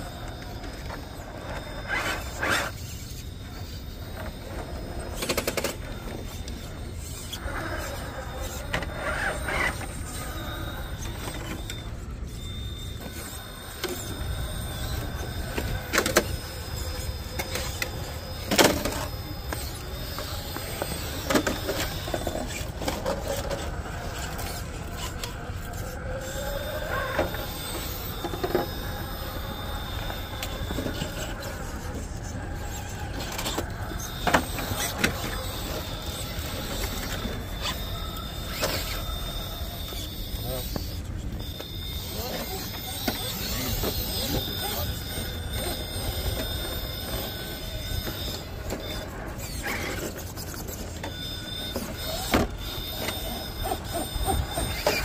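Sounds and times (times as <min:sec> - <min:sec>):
toy truck motor whining: 0:00.0 - 0:55.0.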